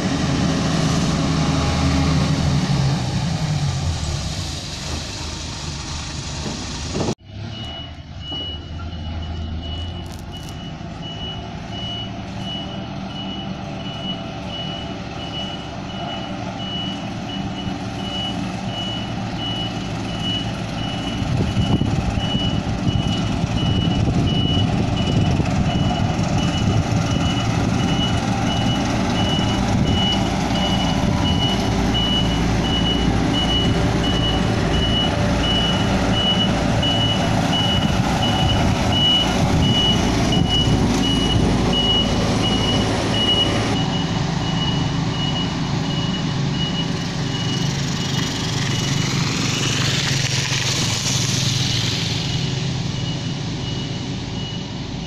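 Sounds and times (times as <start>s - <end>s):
roller diesel engines running: 0.0s - 55.0s.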